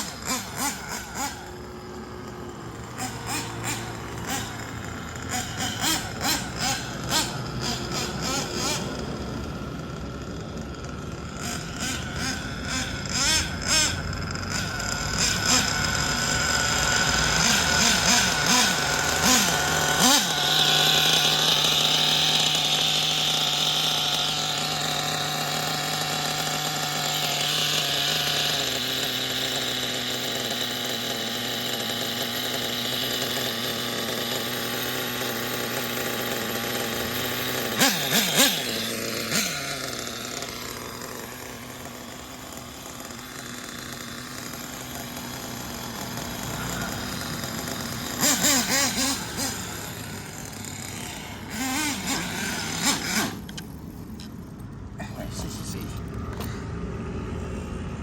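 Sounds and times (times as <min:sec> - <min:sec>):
nitro engine revving: 0:00.0 - 0:58.0.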